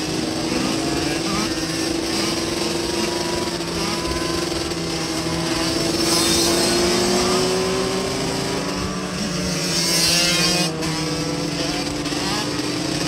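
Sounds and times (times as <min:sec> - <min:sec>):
dirt bike engines running: 0:00.0 - 0:13.0.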